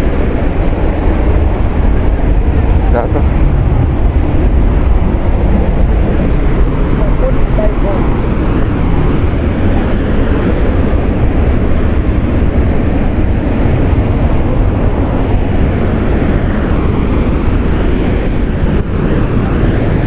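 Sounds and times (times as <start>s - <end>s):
heavy low rumble: 0.0s - 20.0s
waterfall rushing: 0.0s - 20.0s.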